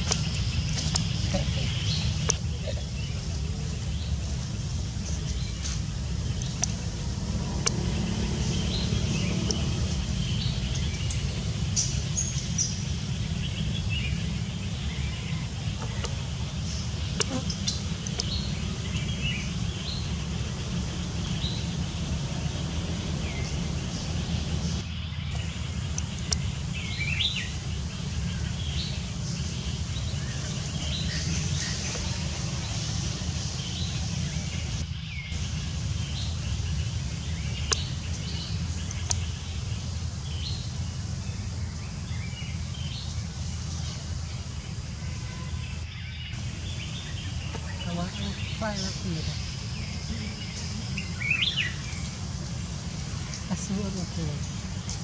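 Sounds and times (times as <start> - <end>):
steady low rumble: 0.0 - 45.8, 46.4 - 55.0
forest birds chirping: 0.0 - 55.0.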